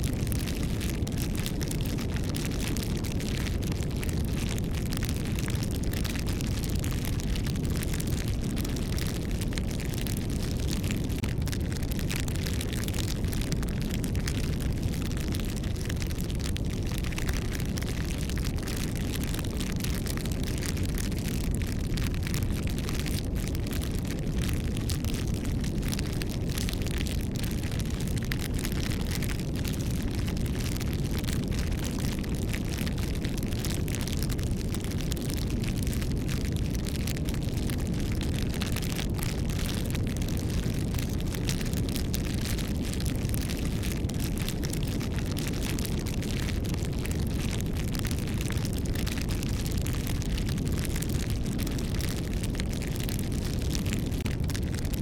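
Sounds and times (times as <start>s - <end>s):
bonfire crackling and popping: 0.0s - 55.0s
low rumble of flames: 0.0s - 55.0s.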